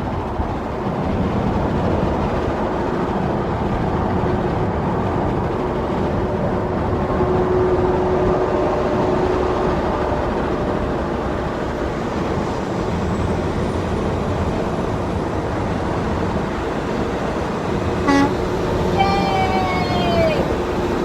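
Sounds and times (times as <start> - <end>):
road and wind noise in car: 0.0 - 21.0.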